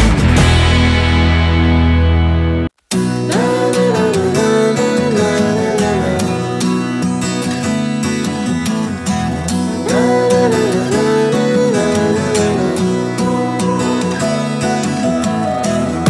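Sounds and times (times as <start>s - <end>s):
acoustic guitar instrumental music: 0.0s - 16.0s.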